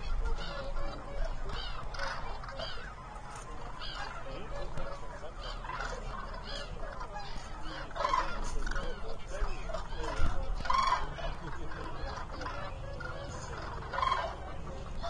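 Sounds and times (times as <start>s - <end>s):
flock of cranes calling: 0.0s - 15.0s.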